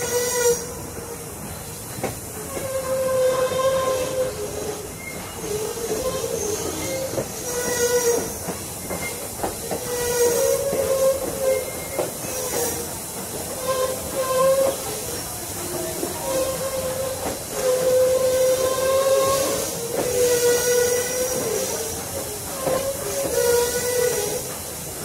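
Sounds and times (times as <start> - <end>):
steam locomotive hiss: 0.0 - 25.0.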